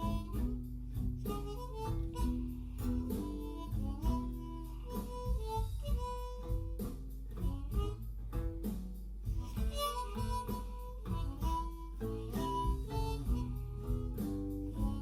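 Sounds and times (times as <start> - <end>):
guitar accompaniment: 0.0 - 15.0
harmonica playing blues: 0.0 - 15.0.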